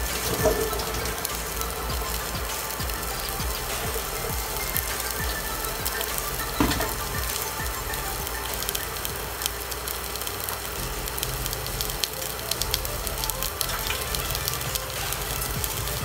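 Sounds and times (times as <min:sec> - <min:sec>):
meat frying in hot oil: 0:00.0 - 0:16.0.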